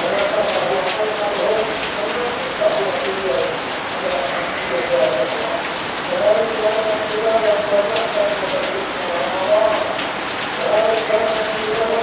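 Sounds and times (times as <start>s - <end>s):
heavy rain on leaves and roof: 0.0s - 12.0s.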